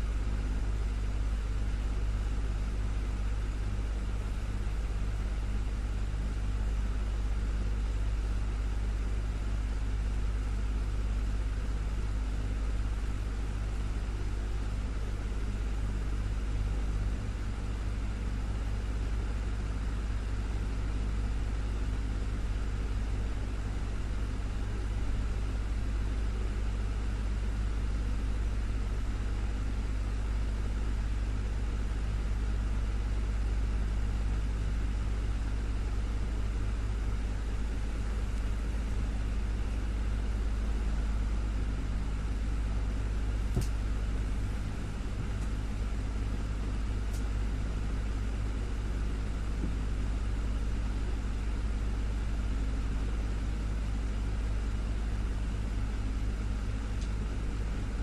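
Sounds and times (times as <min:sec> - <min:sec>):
desktop fan humming: 0:00.0 - 0:58.0.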